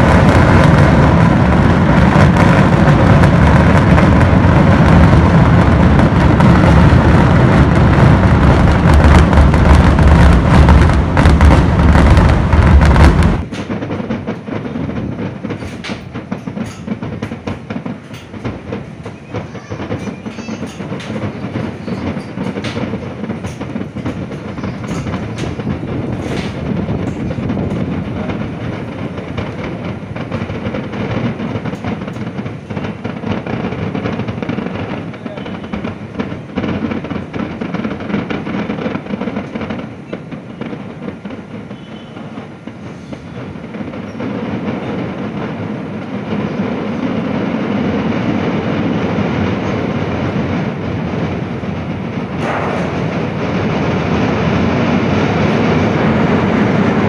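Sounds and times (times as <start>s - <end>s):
firecracker barrage: 0.0s - 57.0s.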